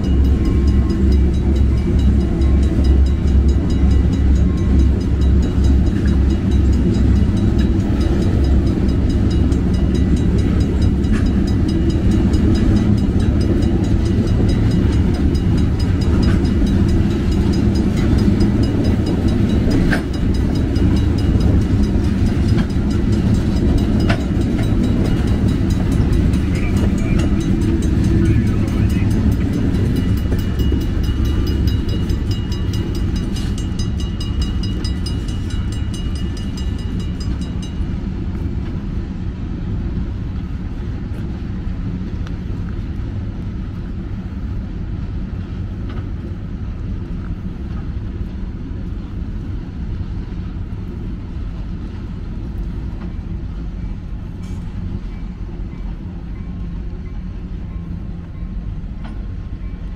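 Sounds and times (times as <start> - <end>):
train rumbling by: 0.0 - 59.9.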